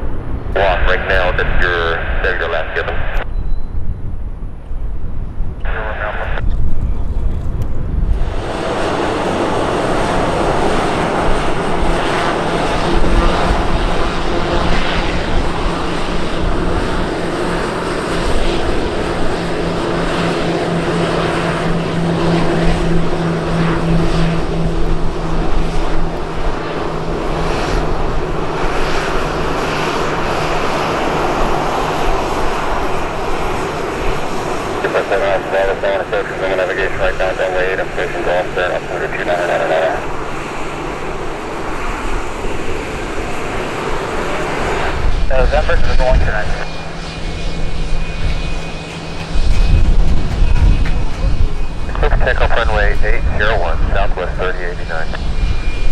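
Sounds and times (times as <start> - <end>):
airplane engines running: 0.0 - 55.9.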